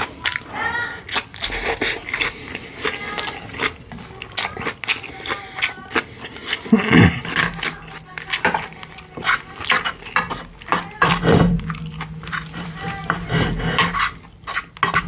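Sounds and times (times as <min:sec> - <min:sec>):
person chewing wetly: 0:00.0 - 0:15.0.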